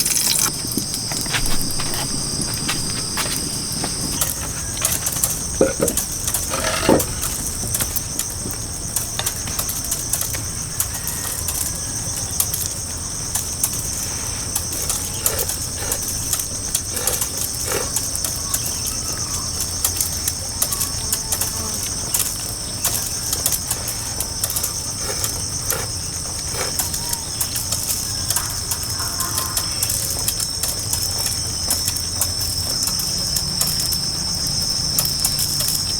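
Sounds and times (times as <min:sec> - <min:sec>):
insects chorus: 0:00.0 - 0:35.9.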